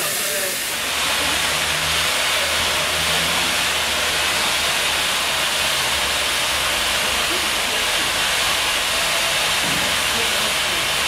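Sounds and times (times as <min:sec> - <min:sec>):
steam locomotive venting steam: 0:00.0 - 0:11.0.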